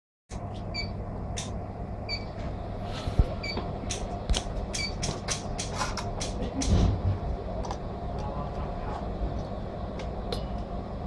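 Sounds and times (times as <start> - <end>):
electrical machine hum: 0.3 - 11.0.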